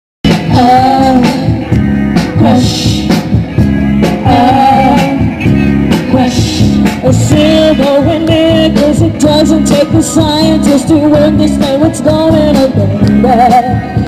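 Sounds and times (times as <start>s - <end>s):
drum beat: 0.2s - 14.0s
pulsing bass: 0.2s - 14.0s.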